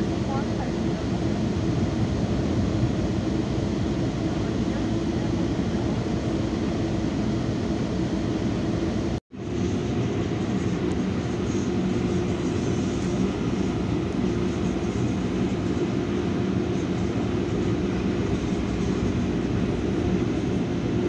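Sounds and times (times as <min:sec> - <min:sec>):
train rumble from inside coach: 0:00.0 - 0:21.0.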